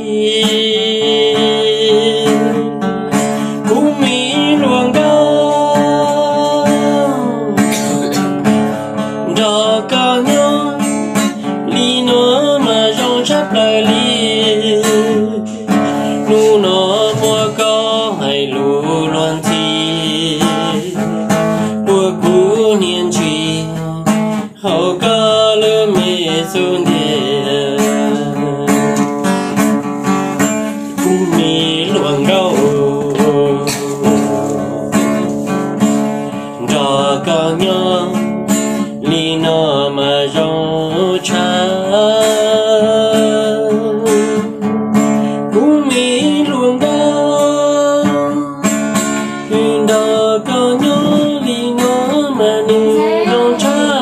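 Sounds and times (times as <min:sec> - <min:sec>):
acoustic guitar strumming: 0:00.0 - 0:54.0
person singing: 0:00.0 - 0:54.0.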